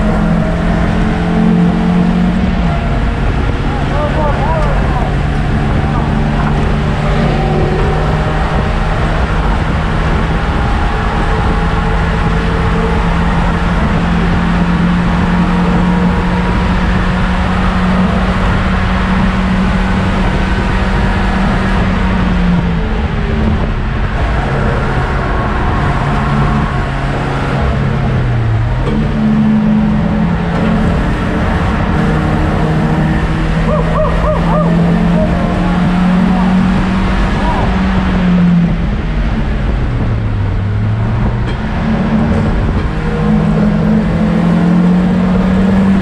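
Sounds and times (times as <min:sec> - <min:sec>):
race car engine under load: 0:00.0 - 0:46.0
road and wind noise: 0:00.0 - 0:46.0.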